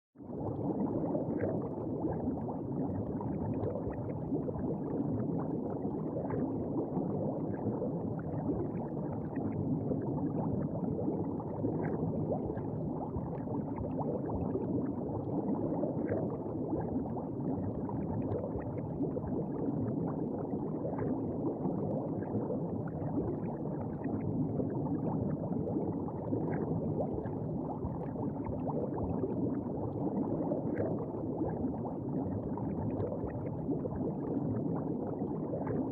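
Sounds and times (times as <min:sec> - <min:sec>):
underwater bubbling and gurgling: 0:00.2 - 0:35.9.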